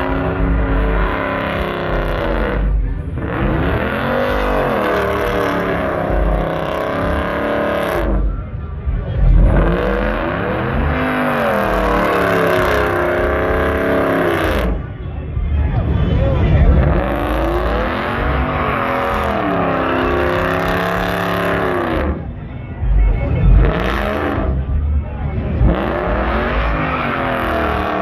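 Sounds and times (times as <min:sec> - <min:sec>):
truck engine revving hard: 0:00.0 - 0:14.9, 0:15.6 - 0:28.0.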